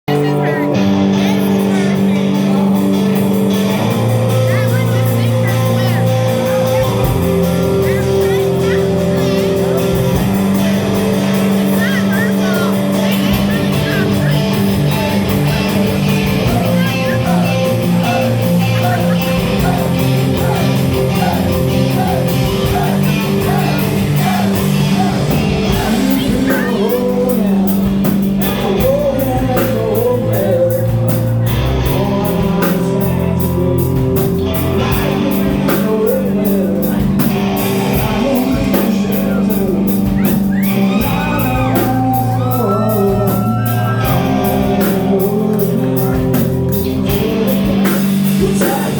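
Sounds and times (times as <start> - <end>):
person singing: 0.1 - 48.9
rock band playing: 0.1 - 48.9
drums and cymbals beat: 1.0 - 48.9.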